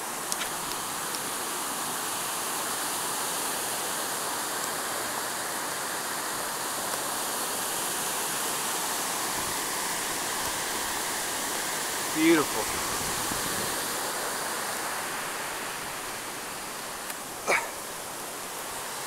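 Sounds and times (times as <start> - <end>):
stream tumbling over rocks: 0.0 - 19.0
waterfall rushing: 0.0 - 19.0.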